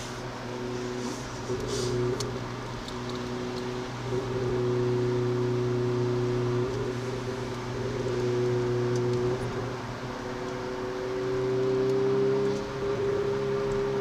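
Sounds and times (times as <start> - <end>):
car engine pulling under load: 0.0 - 14.0.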